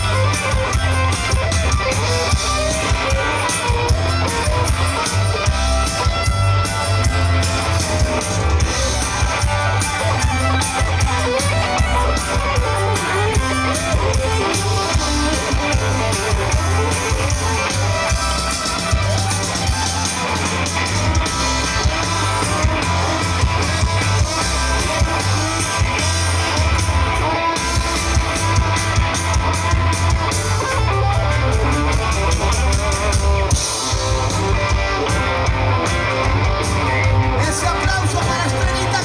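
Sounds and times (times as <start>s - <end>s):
drum kit beats: 0.0s - 39.0s
electric guitars: 0.0s - 39.0s
heavy bass line: 0.0s - 39.0s.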